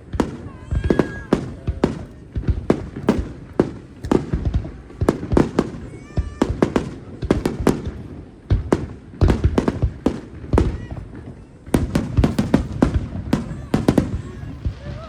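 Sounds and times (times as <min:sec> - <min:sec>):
faint fireworks whistles: 0:00.0 - 0:15.0
fireworks bursting: 0:00.0 - 0:15.0.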